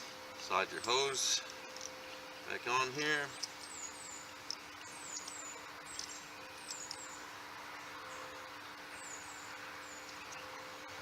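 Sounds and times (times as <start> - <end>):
steady low hum: 0.0 - 11.0
small birds chirping: 0.4 - 11.0.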